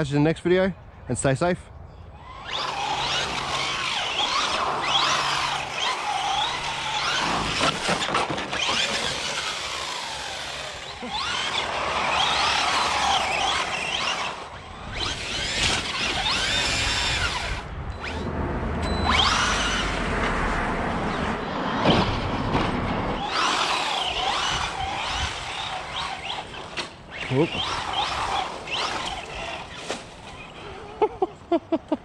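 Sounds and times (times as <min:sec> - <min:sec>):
rc car motor whining: 0:02.2 - 0:18.3, 0:19.0 - 0:31.0.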